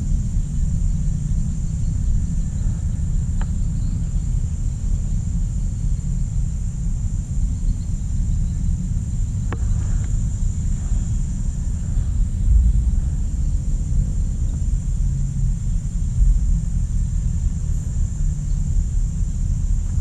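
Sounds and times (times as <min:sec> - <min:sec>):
high-pitched insect drone: 0:00.0 - 0:20.0
wind rumbling on microphone: 0:00.0 - 0:20.0.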